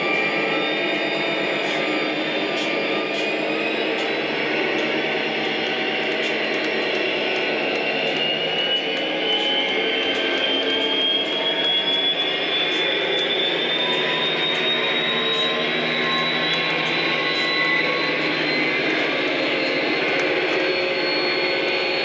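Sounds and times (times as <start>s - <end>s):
electric motor whine: 0.0s - 22.0s.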